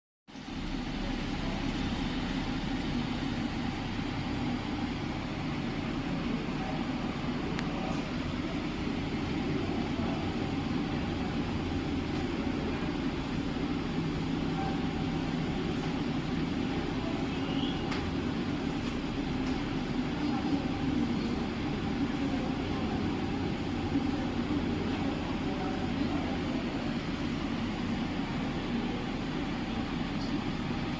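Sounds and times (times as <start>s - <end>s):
cooling fan humming: 0.3s - 30.9s.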